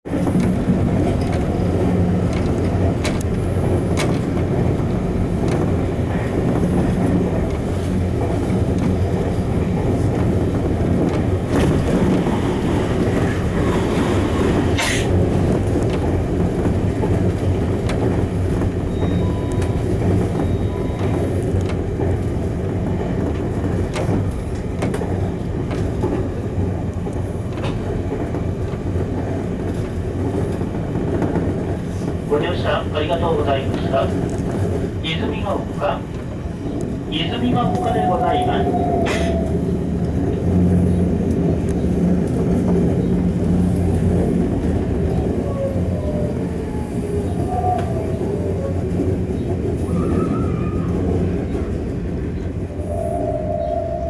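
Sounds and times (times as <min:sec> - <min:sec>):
train rumble and motor hum: 0:00.0 - 0:54.0
wheels clicking over rail joints: 0:00.1 - 0:52.6.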